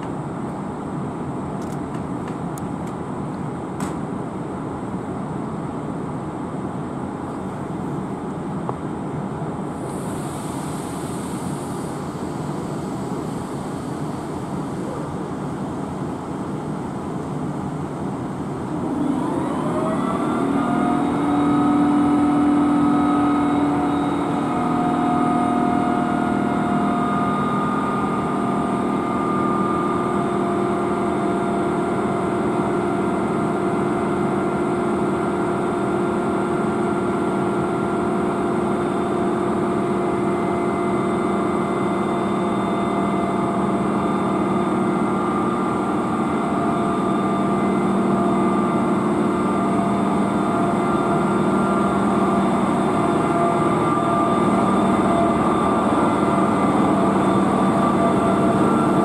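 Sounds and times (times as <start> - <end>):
electric locomotive whining: 9.5 - 59.0.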